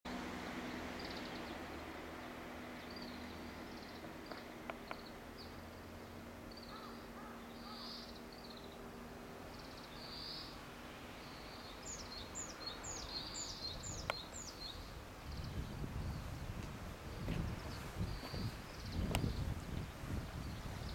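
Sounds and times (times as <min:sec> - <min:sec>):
small birds chirping: 0:00.7 - 0:01.7, 0:02.7 - 0:20.9.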